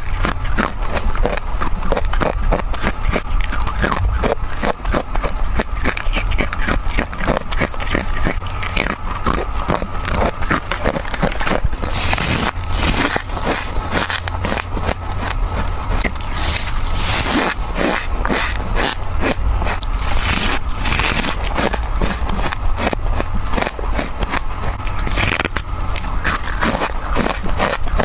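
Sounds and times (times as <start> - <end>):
chewing crunchy frost: 0.0 - 28.0
low hum: 0.0 - 28.0.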